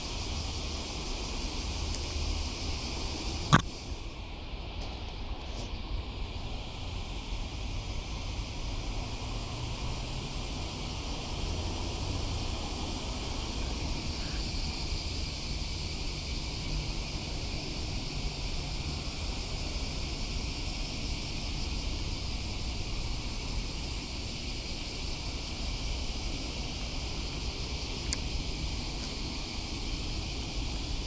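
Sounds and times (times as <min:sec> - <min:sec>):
high-pitched hiss: 0:00.0 - 0:31.0.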